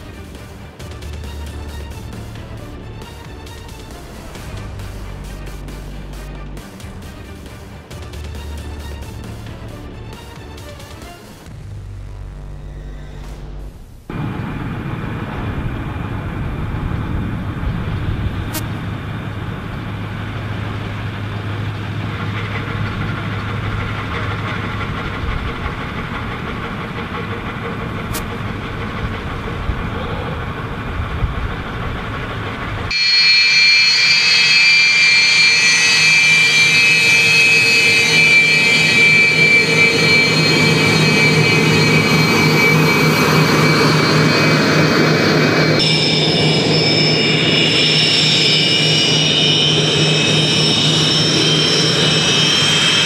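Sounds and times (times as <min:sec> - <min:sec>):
truck engine rumbling: 0:00.0 - 0:32.9, 0:35.1 - 0:53.0
jet engine whine: 0:00.0 - 0:53.0.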